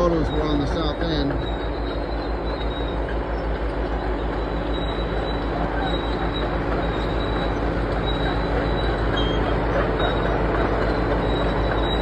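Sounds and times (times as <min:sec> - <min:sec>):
high-pitched wheel squeal: 0:00.0 - 0:12.0
train cars rolling rumble: 0:00.0 - 0:12.0.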